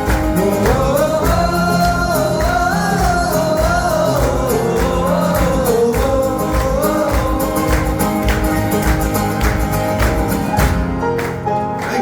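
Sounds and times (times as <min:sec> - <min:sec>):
steady drum beat: 0:00.0 - 0:11.2.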